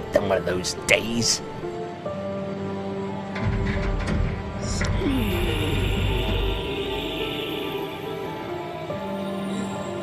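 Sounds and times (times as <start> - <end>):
eerie cartoon background music: 0.0 - 10.0.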